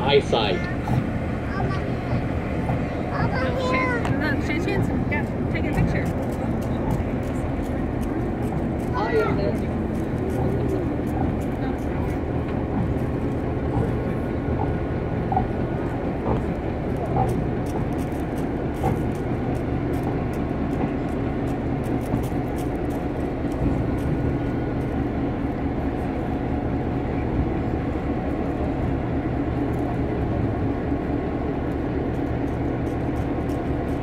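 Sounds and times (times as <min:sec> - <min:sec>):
locomotive engine idling: 0:00.0 - 0:34.0.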